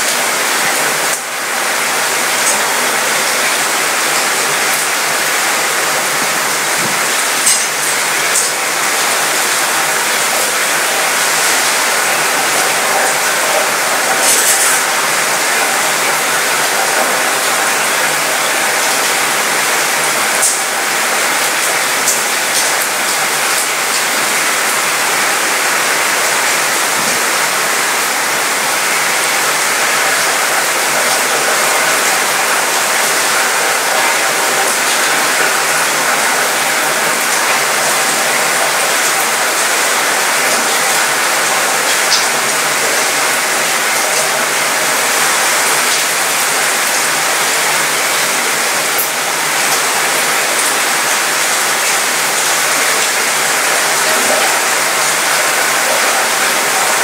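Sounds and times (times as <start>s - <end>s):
rain rattling on metal railing: 0.0s - 57.0s.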